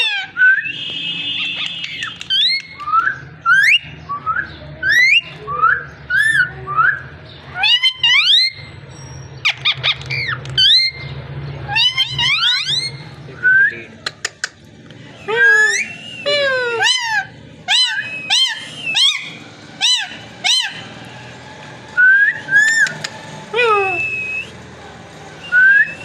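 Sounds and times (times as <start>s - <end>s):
parrot whistles and calls: 0.0s - 11.1s, 11.7s - 13.8s, 15.2s - 20.9s, 22.0s - 24.6s, 25.4s - 26.0s.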